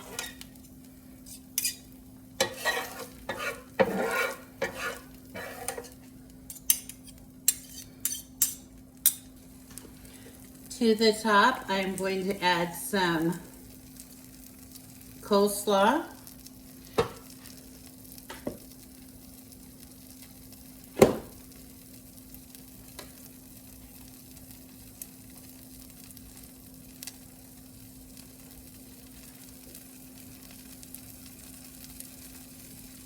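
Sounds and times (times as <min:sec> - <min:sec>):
tortilla sizzling on griddle: 0:00.0 - 0:10.8, 0:13.4 - 0:15.4, 0:16.0 - 0:33.0.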